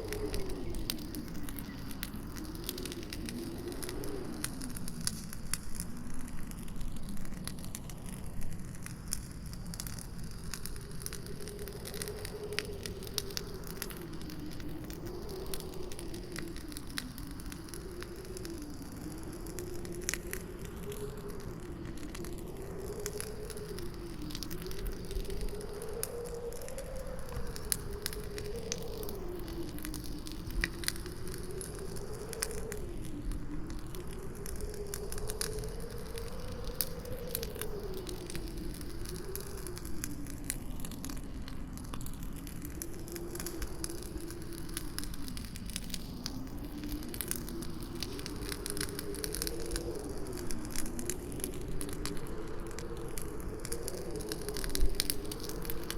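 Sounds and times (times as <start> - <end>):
campfire crackling and popping: 0.0 - 55.9
howling wind: 0.0 - 55.9.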